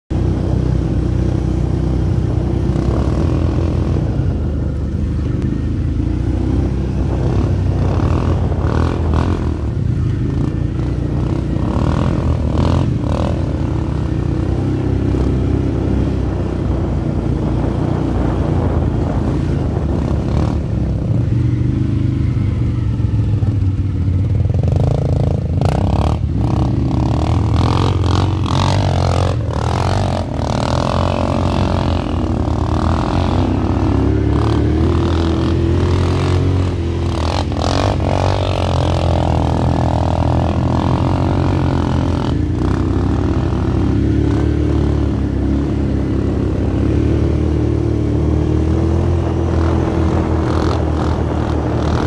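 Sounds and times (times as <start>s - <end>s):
quad bike engines revving: 0.1s - 52.0s.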